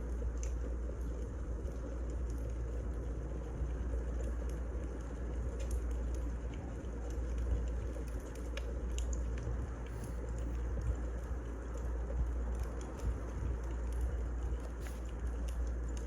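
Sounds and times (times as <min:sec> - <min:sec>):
fire crackles and pops: 0:00.0 - 0:16.0
wood fire rumble: 0:00.0 - 0:16.0.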